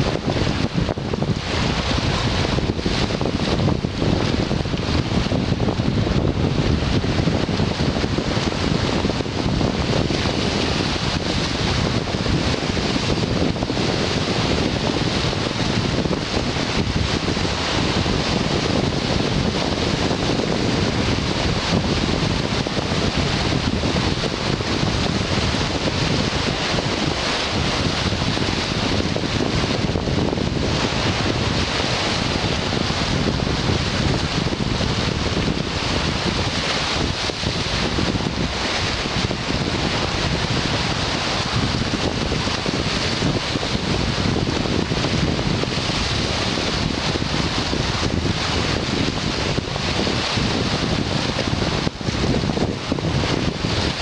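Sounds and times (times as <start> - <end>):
waves washing over rocks: 0.0 - 54.0
wind rumbling on microphone: 0.0 - 54.0.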